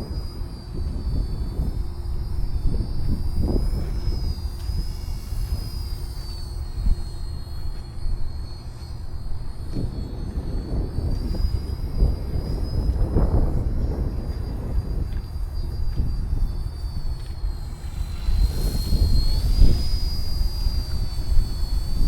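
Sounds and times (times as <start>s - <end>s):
model helicopter whine: 0.0s - 22.0s.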